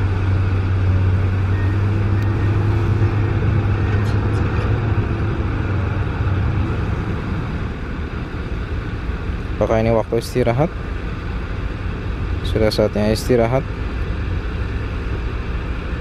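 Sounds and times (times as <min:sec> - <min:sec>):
excavator diesel engine idling: 0:00.0 - 0:16.0.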